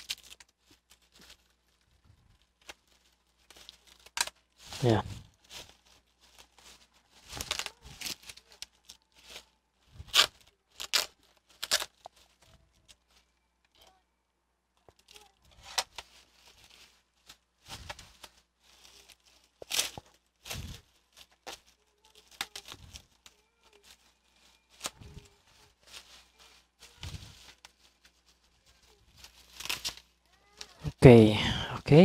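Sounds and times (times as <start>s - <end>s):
plastic packaging rustling: 0.0s - 14.0s, 14.8s - 31.0s.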